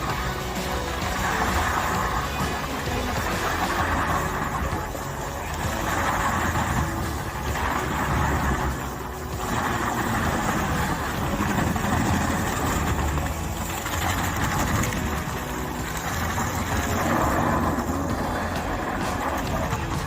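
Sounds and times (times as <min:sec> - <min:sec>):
heavy machine engine humming: 0:00.0 - 0:20.0
rushing noise: 0:00.0 - 0:20.0.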